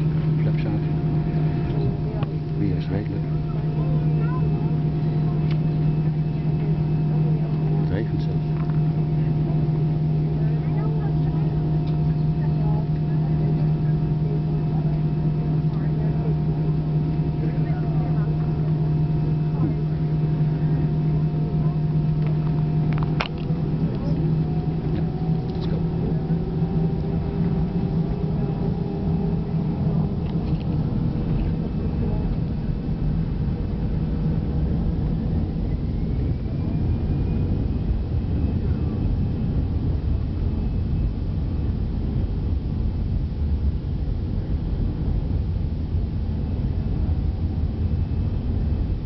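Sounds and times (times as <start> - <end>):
jet engine rumble and hum: 0.0 - 49.0
jet engine whine rising: 0.0 - 49.0.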